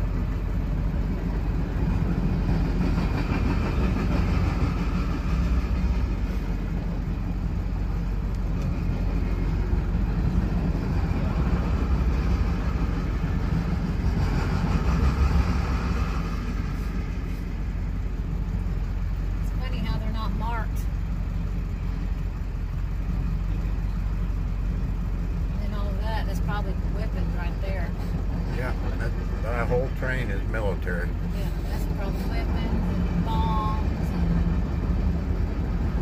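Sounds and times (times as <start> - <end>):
steel wheels rumbling on rail: 0.0 - 36.0.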